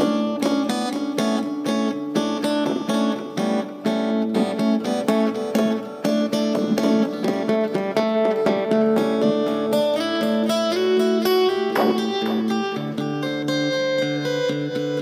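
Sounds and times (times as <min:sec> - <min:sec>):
acoustic guitar with delay: 0:00.0 - 0:15.0.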